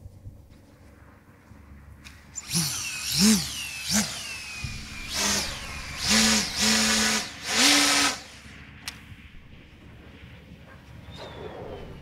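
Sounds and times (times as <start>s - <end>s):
electric motor and propeller whoosh: 2.4s - 12.0s.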